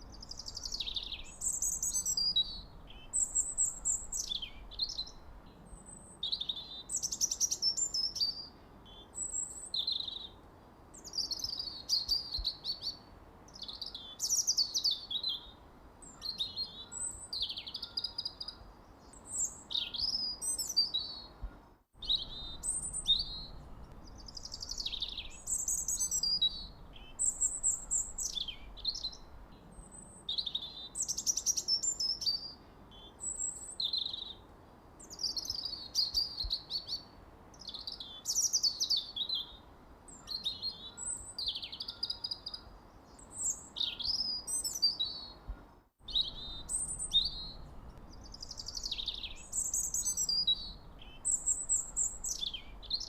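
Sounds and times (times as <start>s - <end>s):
songbird chirping and singing: 0.0s - 53.0s.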